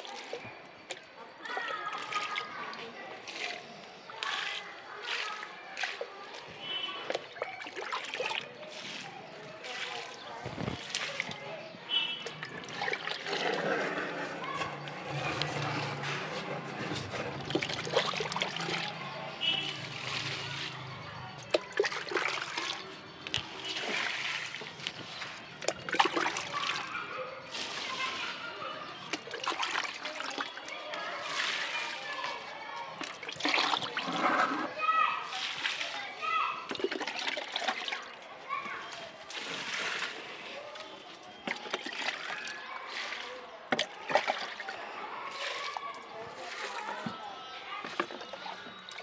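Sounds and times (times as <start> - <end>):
liquid splashing and trickling: 0.0 - 49.0.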